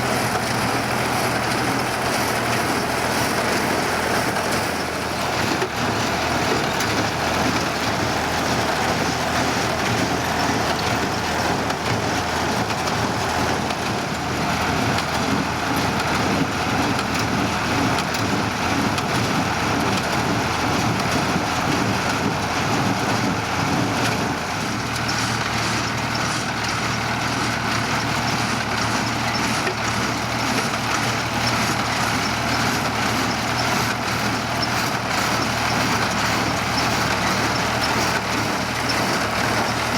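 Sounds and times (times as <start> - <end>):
hay baler running: 0.0 - 39.9
tractor engine running under load: 0.0 - 39.9.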